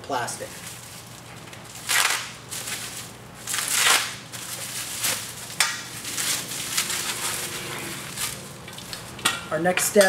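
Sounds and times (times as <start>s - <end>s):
plastic wrapping crinkling and tearing: 0.4s - 9.2s.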